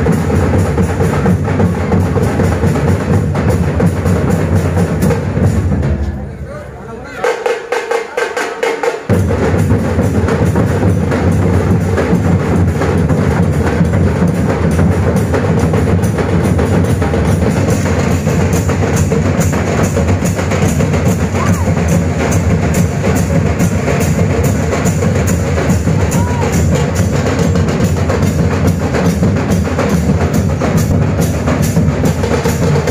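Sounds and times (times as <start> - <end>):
drums beating fast rhythm: 0.0 - 32.9.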